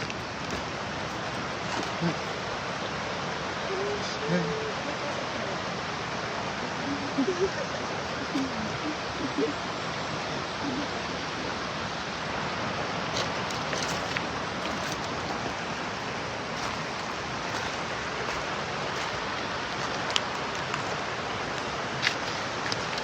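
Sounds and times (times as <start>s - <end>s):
mountain stream rushing: 0.0s - 23.0s.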